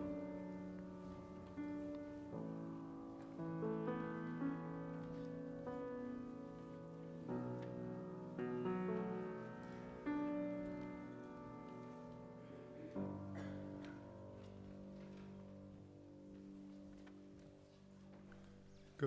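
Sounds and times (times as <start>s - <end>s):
soft keyboard chords: 0.0s - 19.0s.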